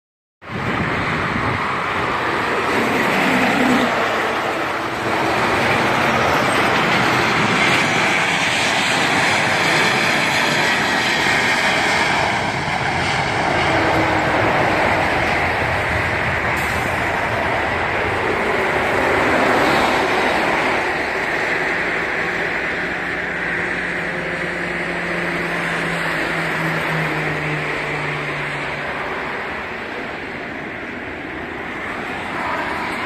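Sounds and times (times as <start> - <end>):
jet engines roaring: 0.4 - 33.0.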